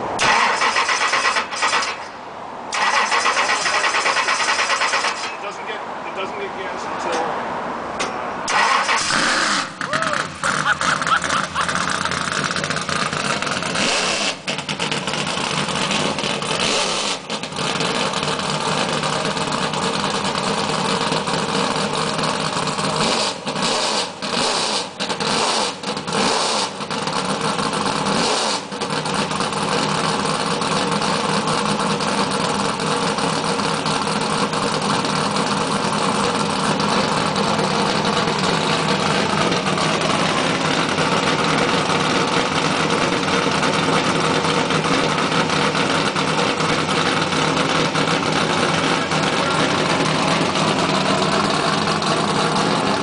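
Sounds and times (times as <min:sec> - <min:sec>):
race car engine revving: 0:08.4 - 0:53.0.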